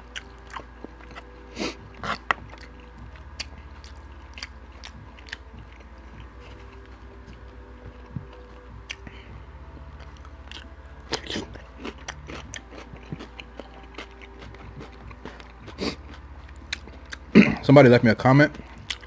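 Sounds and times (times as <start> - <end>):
chewing food: 0.0 - 19.0
steady low hum: 0.0 - 19.0.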